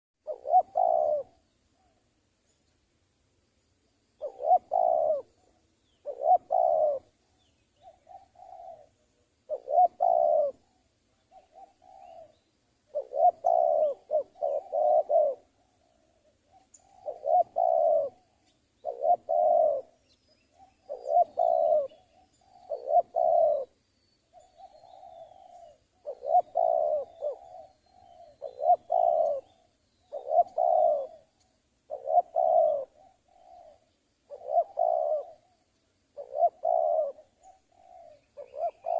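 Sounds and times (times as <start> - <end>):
doves cooing: 0.2 - 2.1, 4.2 - 38.9
small birds chirping: 0.2 - 38.9.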